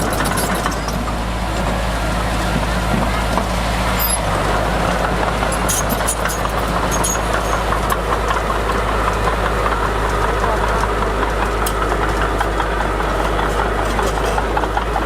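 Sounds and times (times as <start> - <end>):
diesel machinery running: 0.0 - 15.0.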